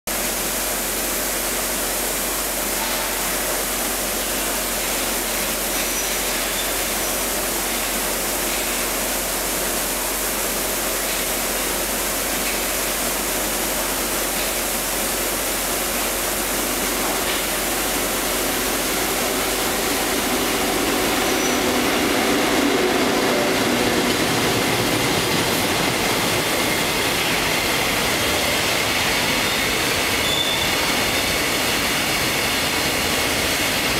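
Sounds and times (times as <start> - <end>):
freight train passing: 0.1 - 33.9.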